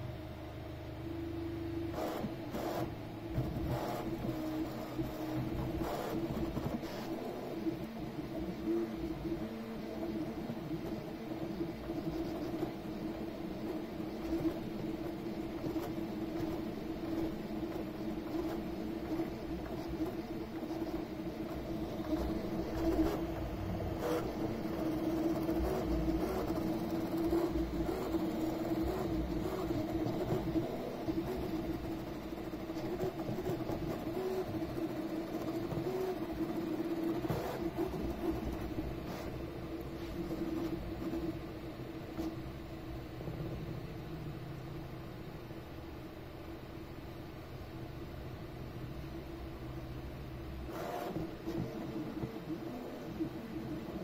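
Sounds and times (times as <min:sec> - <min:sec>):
printer motors humming: 0:00.0 - 0:54.0.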